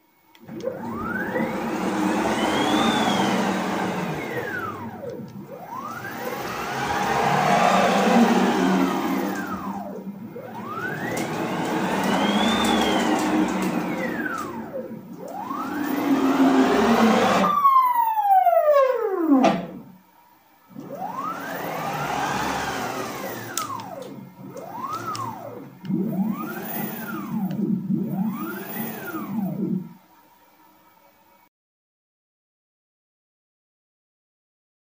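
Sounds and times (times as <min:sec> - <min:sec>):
stepper motors whining: 0:00.4 - 0:20.0, 0:20.7 - 0:30.0.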